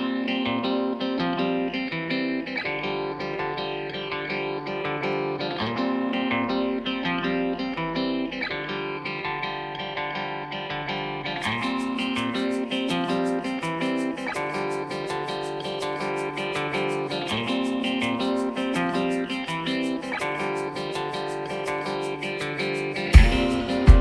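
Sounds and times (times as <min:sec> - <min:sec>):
guitar instrumental music: 0:00.0 - 0:24.0.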